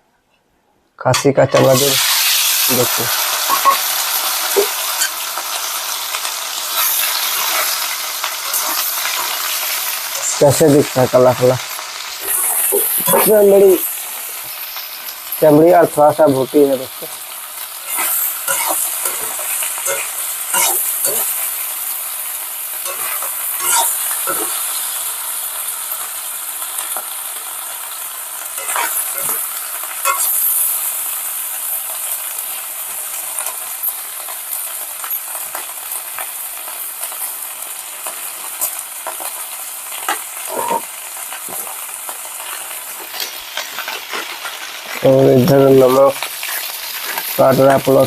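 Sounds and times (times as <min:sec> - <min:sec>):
skin sizzling in hot oil: 0:01.4 - 0:48.0.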